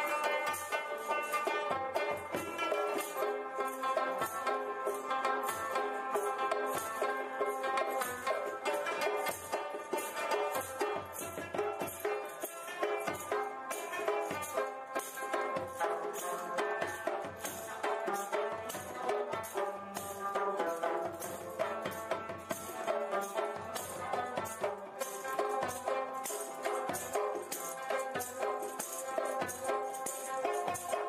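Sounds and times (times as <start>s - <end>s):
background music with shaker beat: 0.0s - 31.0s.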